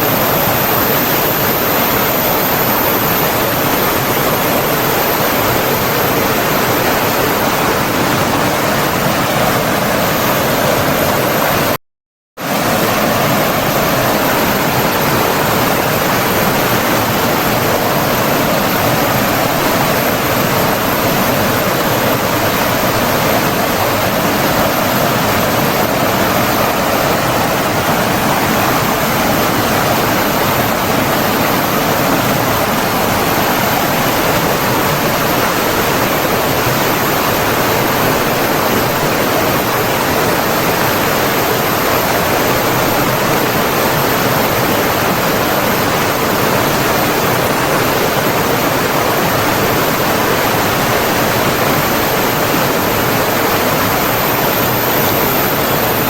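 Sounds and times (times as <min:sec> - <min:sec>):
running water rushing: 0:00.0 - 0:11.8, 0:12.4 - 0:56.0.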